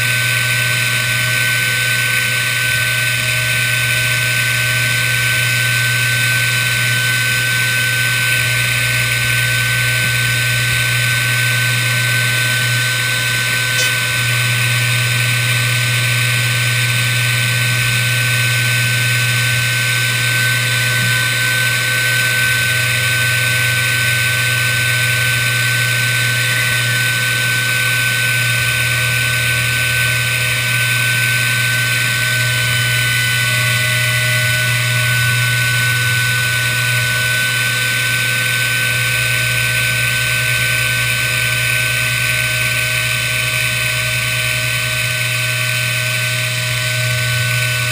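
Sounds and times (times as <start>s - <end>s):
router spindle whine: 0.0s - 47.9s
low hum: 5.0s - 27.1s, 31.1s - 47.9s.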